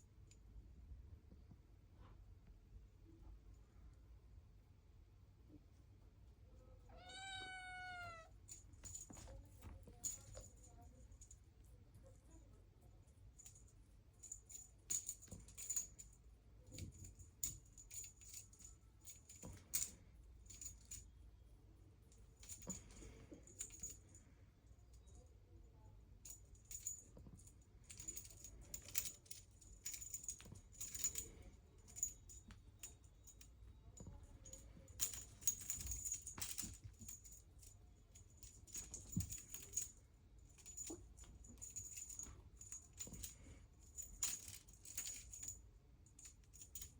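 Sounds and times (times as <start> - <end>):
small jingle bell jingling: 7.0 - 21.2, 22.0 - 46.9.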